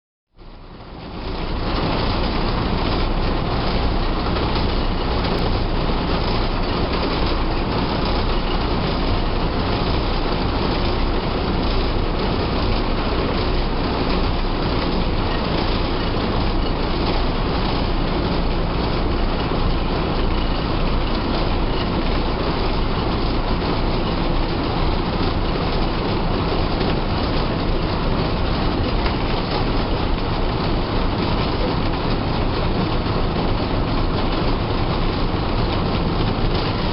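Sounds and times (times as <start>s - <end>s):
bus diesel engine running: 0.4s - 36.9s
road and body rattle: 0.4s - 36.9s.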